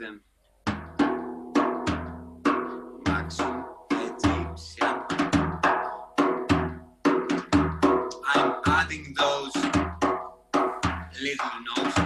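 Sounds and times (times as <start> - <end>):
frame drum playing rhythm: 0.7 - 12.0.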